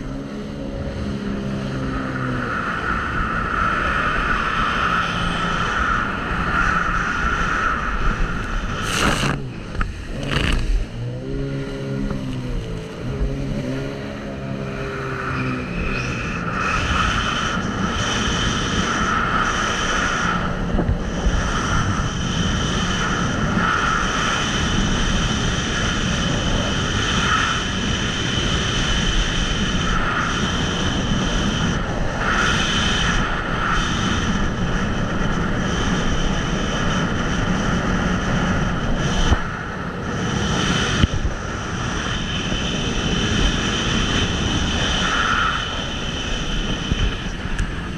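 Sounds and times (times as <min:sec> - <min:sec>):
watercraft engine whine: 0:00.0 - 0:47.9
wind on microphone: 0:00.0 - 0:47.9.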